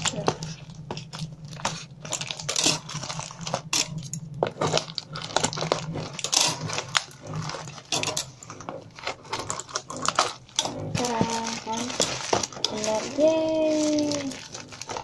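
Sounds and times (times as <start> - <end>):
packing tape and plastic crinkling: 0.0 - 15.0.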